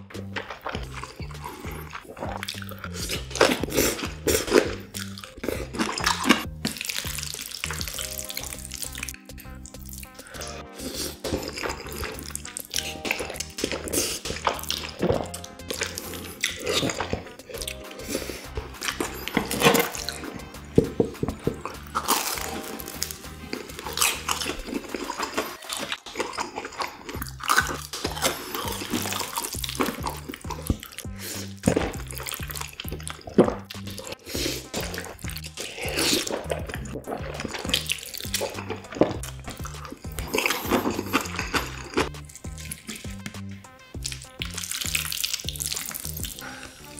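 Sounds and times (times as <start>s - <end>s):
mouth smacking clicks: 0.0s - 46.7s
background music: 0.0s - 46.9s
slurping and chewing noodles: 0.0s - 46.9s.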